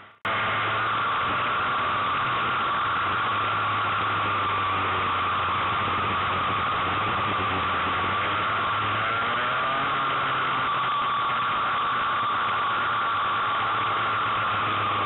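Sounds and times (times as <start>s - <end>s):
kart engine running hard: 0.0s - 15.0s.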